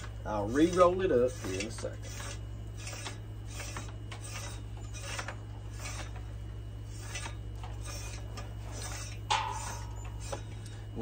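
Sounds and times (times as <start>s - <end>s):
cable rubbing in metal tube: 0.0s - 6.2s, 6.8s - 10.6s.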